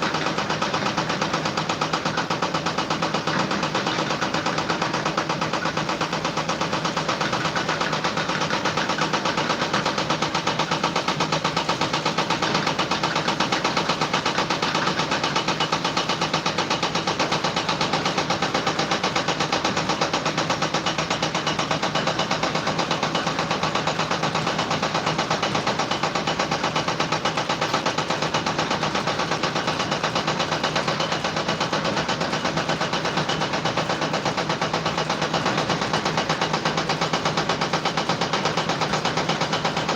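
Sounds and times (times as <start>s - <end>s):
machine running with rapid pulse: 0.0s - 39.9s.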